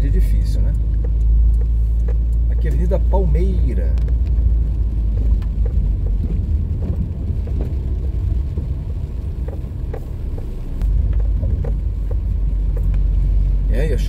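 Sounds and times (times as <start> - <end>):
vehicle engine and road rumble: 0.0 - 14.0
light ticks: 0.1 - 14.0.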